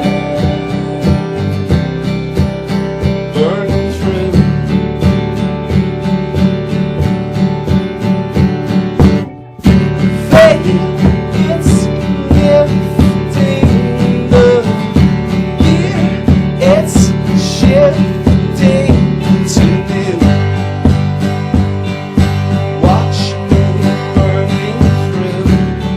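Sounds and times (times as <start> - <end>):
band playing live: 0.0 - 25.9
strummed acoustic guitar: 0.0 - 25.9.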